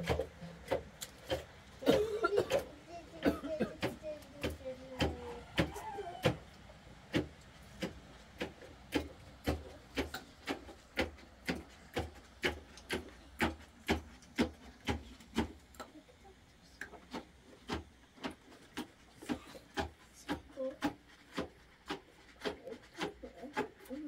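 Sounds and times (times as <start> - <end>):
wooden pestle pounding: 0.0 - 2.6, 3.6 - 6.4, 7.1 - 15.7, 17.1 - 24.0.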